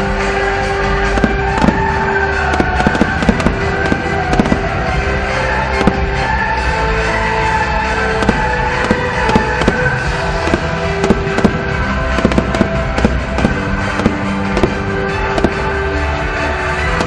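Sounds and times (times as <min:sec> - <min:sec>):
fireworks bangs and crackles: 0:00.0 - 0:17.0
music with long held notes: 0:00.0 - 0:17.0.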